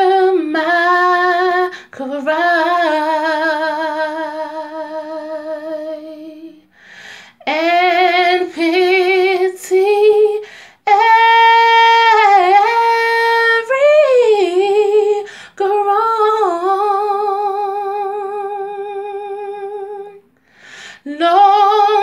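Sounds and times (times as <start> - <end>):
woman singing unaccompanied: 0.0 - 6.6, 7.4 - 20.2, 21.0 - 22.0.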